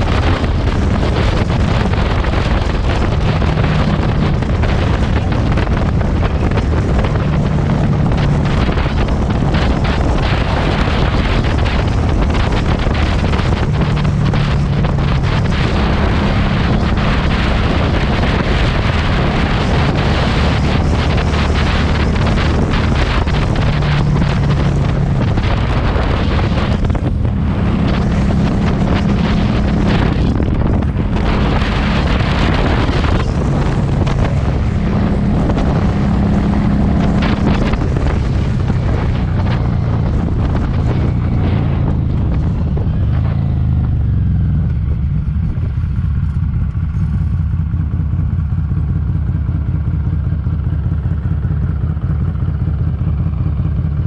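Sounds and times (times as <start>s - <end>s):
motorcycle exhaust note: 0.0s - 54.0s
wind noise on microphone: 0.0s - 54.0s.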